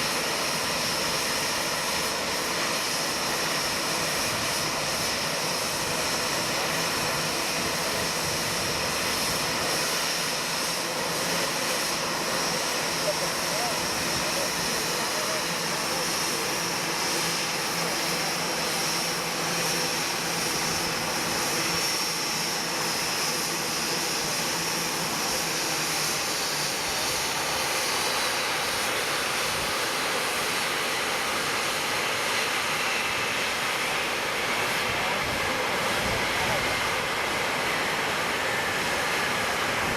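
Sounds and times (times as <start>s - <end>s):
jet engines running with high whine: 0.0s - 39.9s.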